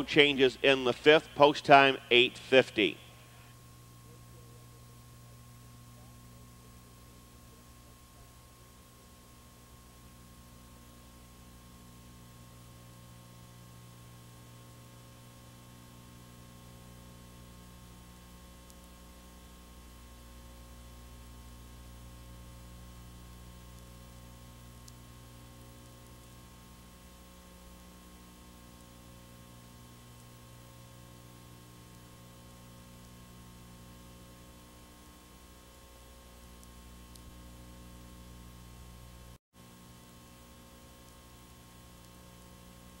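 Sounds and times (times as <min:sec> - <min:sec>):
faint electrical hum with hiss: 0:00.0 - 0:43.0.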